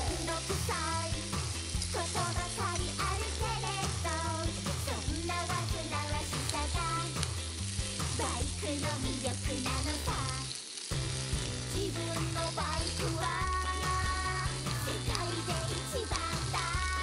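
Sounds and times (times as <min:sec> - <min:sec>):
background music with bass line: 0:00.0 - 0:10.4, 0:11.0 - 0:17.0
food sizzling in a frying pan: 0:00.0 - 0:17.0.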